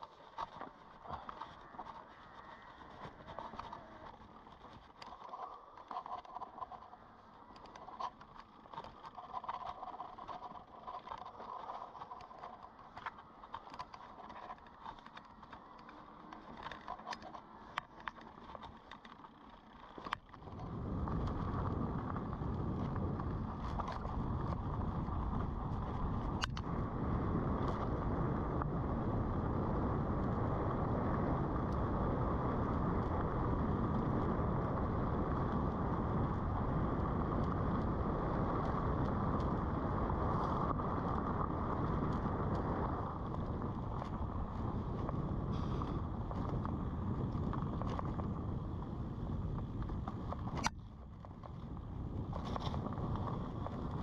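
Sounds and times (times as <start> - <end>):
bike clicks and rattles: 0.0 - 54.0
bike tyres on dirt trail: 0.0 - 54.0
wind and tyre roar: 0.0 - 54.0.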